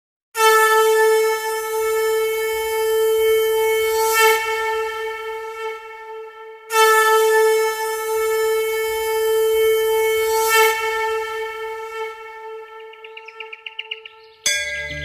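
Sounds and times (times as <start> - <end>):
conch shell blown: 0.4 - 15.0.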